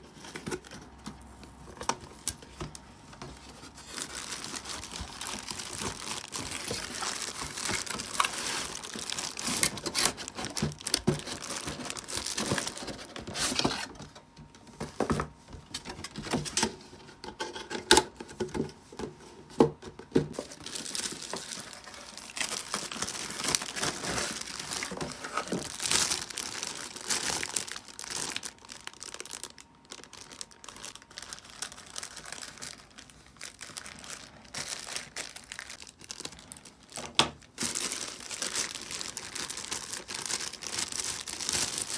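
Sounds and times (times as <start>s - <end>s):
plastic wrapping crinkling and tearing: 0.0s - 41.9s.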